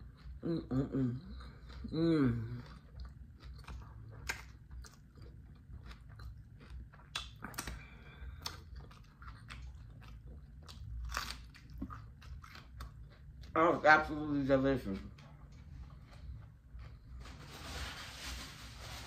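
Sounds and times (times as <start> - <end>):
person chewing food: 0.0 - 13.8, 14.8 - 17.3.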